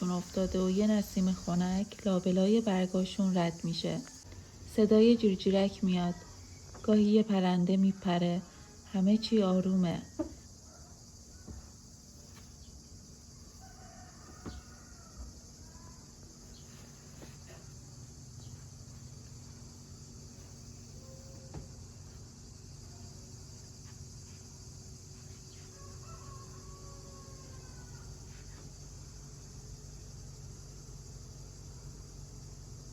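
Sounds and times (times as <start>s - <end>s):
crickets chirring: 0.0s - 32.9s.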